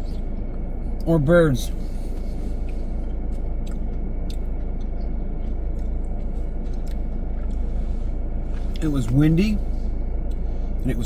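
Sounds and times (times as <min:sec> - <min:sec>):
vehicle driving rumble: 0:00.0 - 0:11.0.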